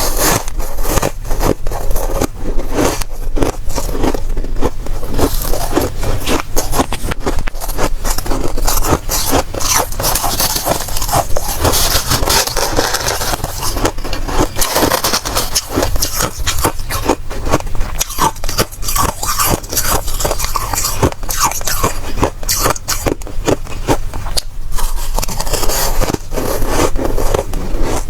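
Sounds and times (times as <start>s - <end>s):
frost being scraped and crunched: 0.0s - 28.0s.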